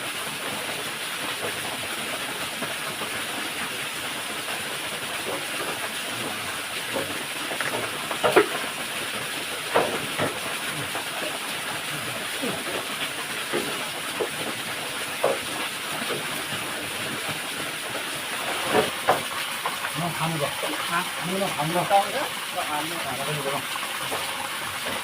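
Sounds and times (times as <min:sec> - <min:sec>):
waterfall rushing: 0:04.9 - 0:25.0.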